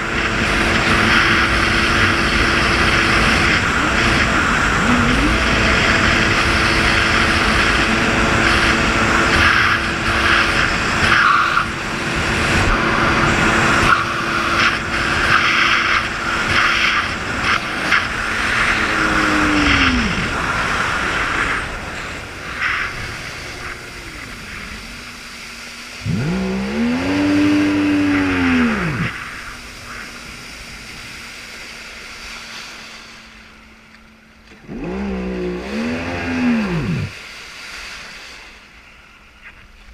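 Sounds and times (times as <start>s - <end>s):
jet ski engine revving: 0.0s - 39.8s.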